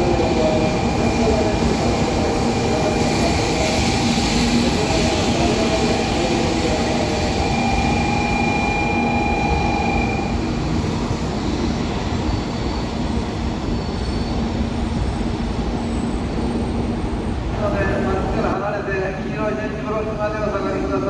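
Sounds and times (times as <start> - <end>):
high-pitched train whine: 0.0 - 19.7
train rumble: 0.0 - 21.0.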